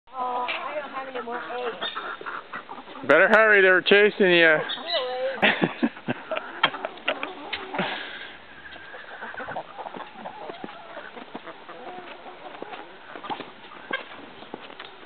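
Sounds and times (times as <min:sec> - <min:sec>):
hens clucking: 0:00.1 - 0:15.0.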